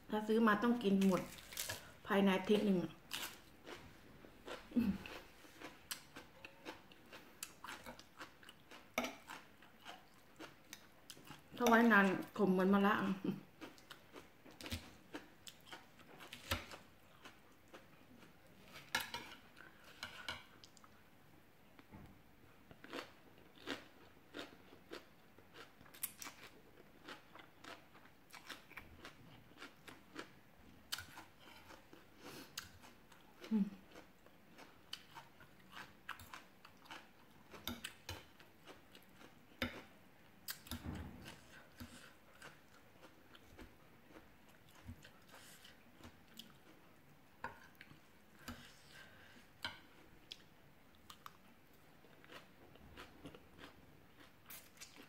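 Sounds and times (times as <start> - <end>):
person chewing food: 3.0 - 11.6, 13.3 - 21.0, 22.7 - 55.0.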